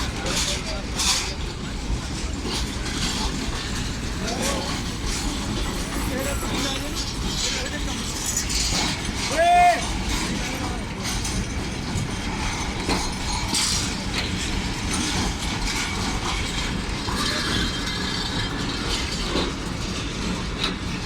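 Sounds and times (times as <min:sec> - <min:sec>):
train coaches rattling and clanking: 0:00.0 - 0:21.0.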